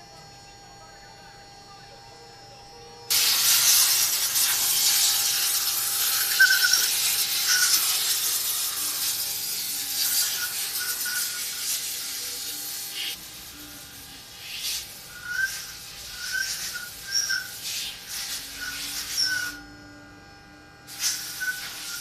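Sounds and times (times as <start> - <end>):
router cutting hiss: 2.2 - 22.0.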